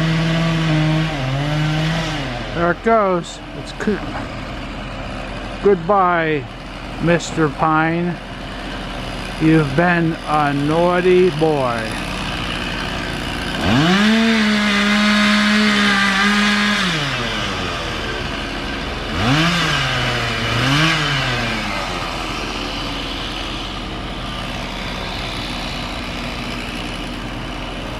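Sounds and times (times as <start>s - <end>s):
chainsaw revving and cutting wood: 0.0s - 27.9s.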